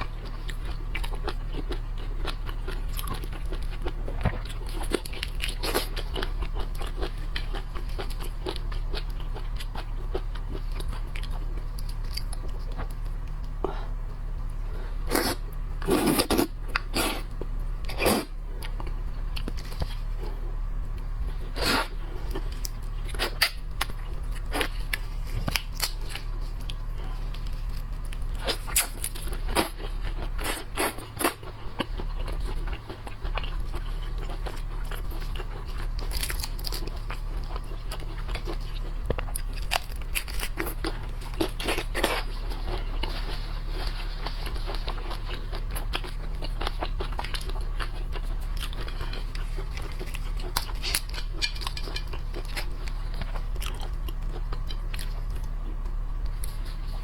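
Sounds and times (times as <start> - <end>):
chewing: 0.0 - 57.0
steady low hum: 0.0 - 57.0.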